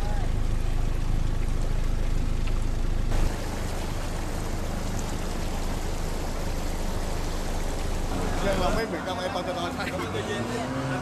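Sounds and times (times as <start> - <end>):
low engine rumble: 0.0 - 10.4
water rushing: 0.0 - 10.9.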